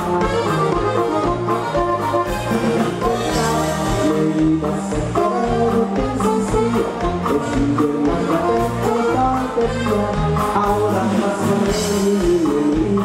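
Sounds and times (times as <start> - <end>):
person singing into microphone: 0.0 - 13.0
saxophone-led band playing: 0.0 - 13.0.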